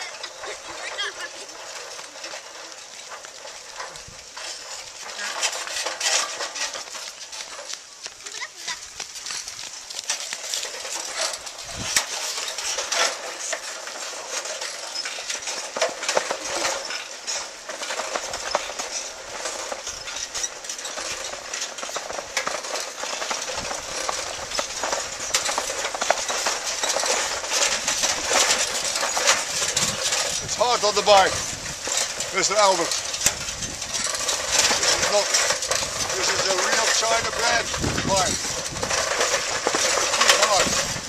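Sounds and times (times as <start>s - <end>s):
bicycle rattling on dirt road: 0.0s - 41.0s.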